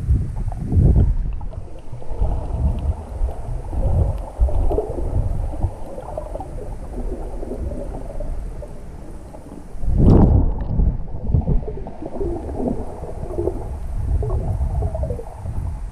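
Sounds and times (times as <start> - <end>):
muffled underwater water surges: 0.0 - 15.9.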